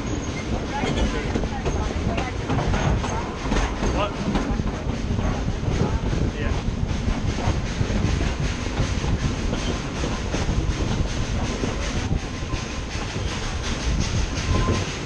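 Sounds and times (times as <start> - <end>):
steam train rhythmic clatter: 0.0 - 15.0.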